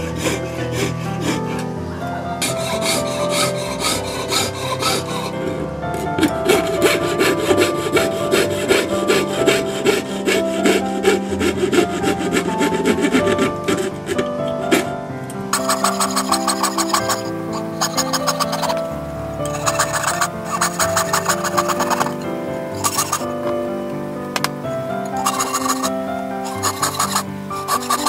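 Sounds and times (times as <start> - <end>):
saw rasping through metal sheet: 0.0 - 1.6, 2.4 - 5.4, 6.2 - 14.2, 15.5 - 18.8, 19.4 - 23.3, 25.2 - 28.0
background music: 0.0 - 28.0.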